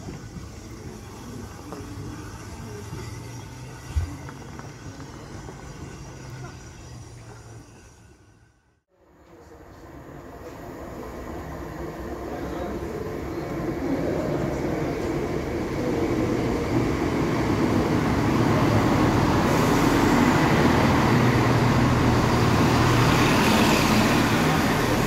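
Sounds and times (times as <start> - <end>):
diesel train engines humming: 0.0 - 25.0
train wheels on rails: 0.0 - 25.0.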